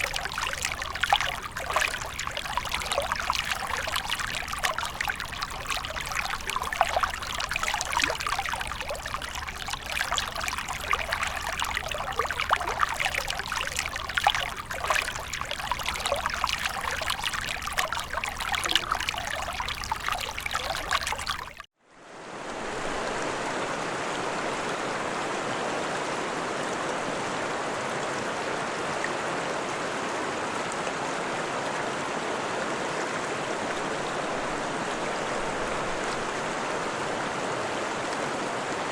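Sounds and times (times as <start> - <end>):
babbling stream: 0.0 - 38.9
rush of flowing water: 0.0 - 38.9.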